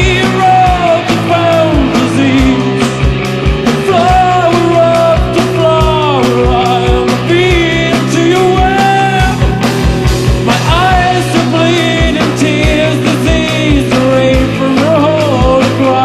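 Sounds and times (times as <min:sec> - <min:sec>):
bending lead melody: 0:00.0 - 0:16.0
held bass notes: 0:00.0 - 0:16.0
rock band playing live: 0:00.0 - 0:16.0
steady kick drum beat: 0:00.0 - 0:16.0.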